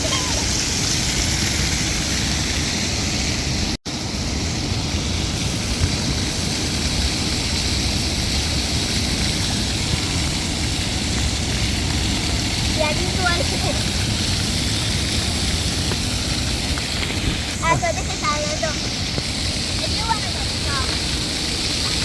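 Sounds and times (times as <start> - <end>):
water fountain splashing: 0.0 - 22.0.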